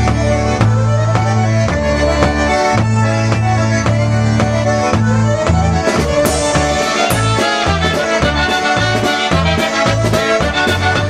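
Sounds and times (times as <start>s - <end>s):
concertina melody: 0.0s - 11.0s
polka band music: 0.0s - 11.0s.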